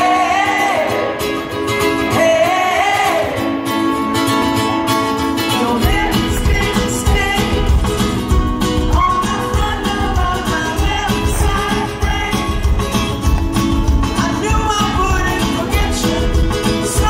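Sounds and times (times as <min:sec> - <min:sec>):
man singing: 0:00.0 - 0:03.8, 0:05.4 - 0:08.2, 0:08.8 - 0:17.0
pop-rock band playing: 0:00.0 - 0:17.0
strummed ukulele: 0:00.0 - 0:17.0.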